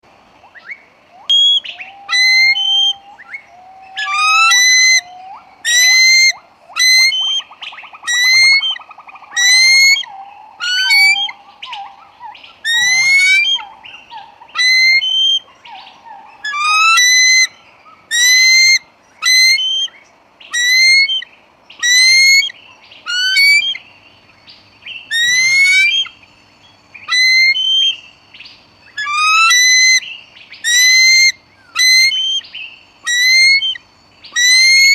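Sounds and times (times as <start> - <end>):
eagle calling: 0.5 - 23.9, 25.0 - 26.2, 27.0 - 28.1, 28.8 - 34.9.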